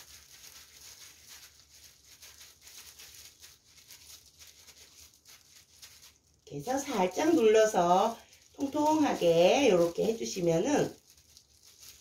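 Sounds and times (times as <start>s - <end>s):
plastic gloves crinkling: 0.0s - 12.0s.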